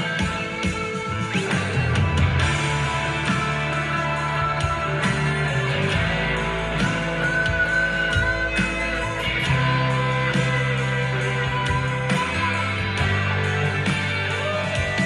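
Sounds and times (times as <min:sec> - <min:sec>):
electric guitar sustained notes: 0:00.0 - 0:15.0
steady bass line: 0:00.0 - 0:15.0.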